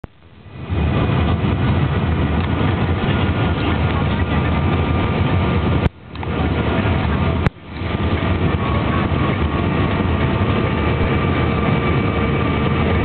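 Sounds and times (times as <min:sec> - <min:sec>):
faint steady whine: 0:00.0 - 0:13.0
jet engine cabin rumble: 0:00.0 - 0:13.0.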